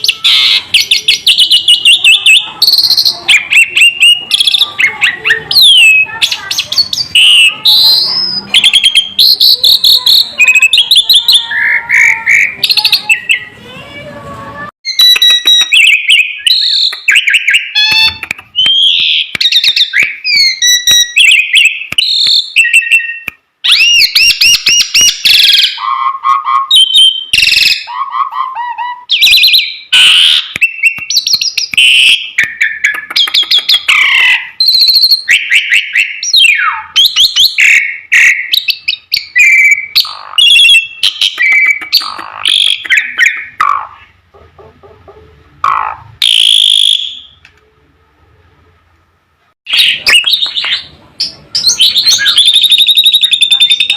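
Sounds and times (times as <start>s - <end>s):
starling singing: 0.0s - 47.4s, 49.7s - 53.9s.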